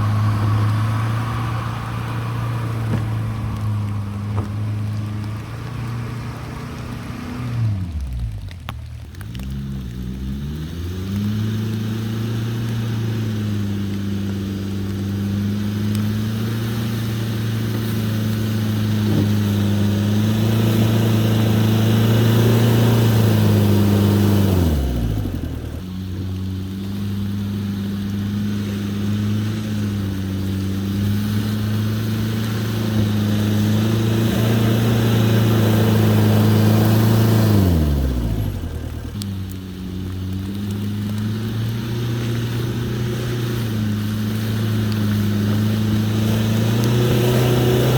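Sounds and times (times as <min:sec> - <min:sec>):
diesel engine pulling: 0:00.0 - 0:47.9.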